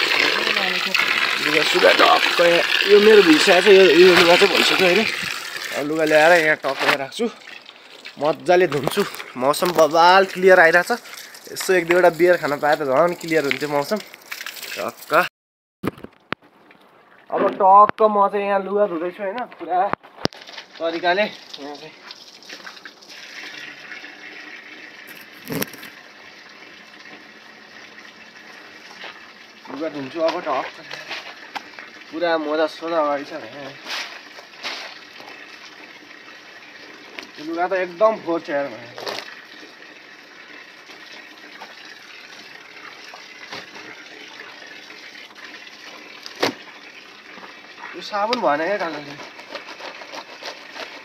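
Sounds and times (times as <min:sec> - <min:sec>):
water running onto concrete: 0:00.0 - 0:15.3, 0:20.3 - 0:51.0.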